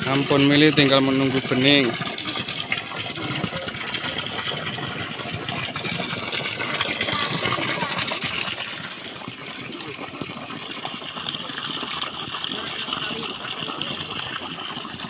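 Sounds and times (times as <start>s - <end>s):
drilling rig engine running: 0.0s - 15.0s.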